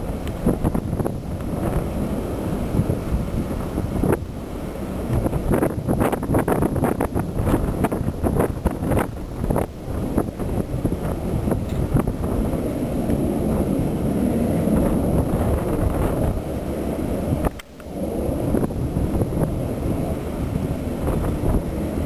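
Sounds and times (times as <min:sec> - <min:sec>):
diesel train rumbling: 0:00.0 - 0:22.0
wind buffeting microphone: 0:00.0 - 0:22.0.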